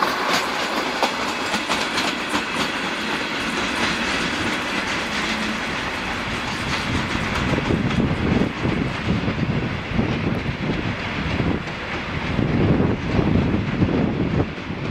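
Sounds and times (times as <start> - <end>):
train coaches rolling on rails: 0.0 - 14.9.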